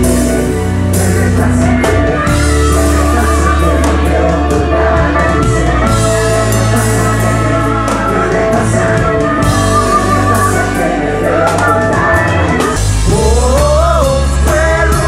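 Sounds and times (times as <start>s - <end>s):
live pop-rock music: 0.0s - 15.0s
man singing into a microphone: 0.0s - 15.0s.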